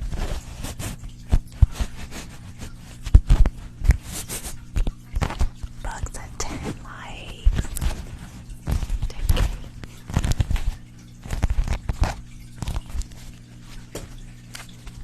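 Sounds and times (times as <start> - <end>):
small objects tapping and crinkling: 0.0 - 5.8, 7.6 - 15.0
faint steady hum: 0.0 - 15.0.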